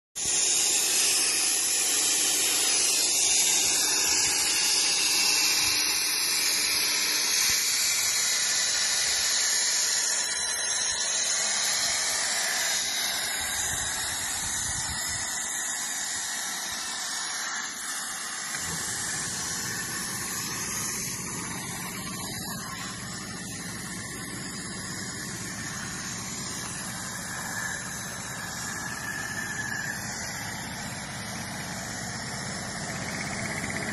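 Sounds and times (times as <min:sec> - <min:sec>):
plasma torch hissing: 0:00.2 - 0:33.9.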